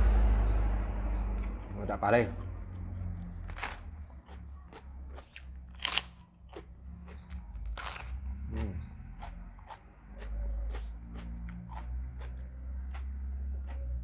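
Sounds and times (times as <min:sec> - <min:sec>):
crunching and chewing raw gourd: 0:00.0 - 0:14.0.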